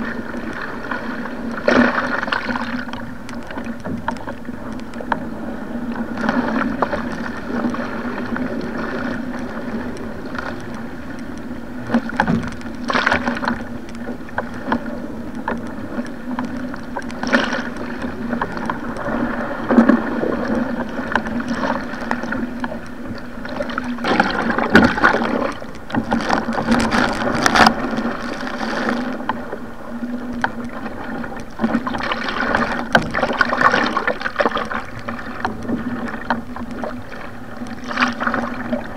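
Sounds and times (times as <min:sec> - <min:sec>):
water rushing along hull: 0:00.0 - 0:38.9.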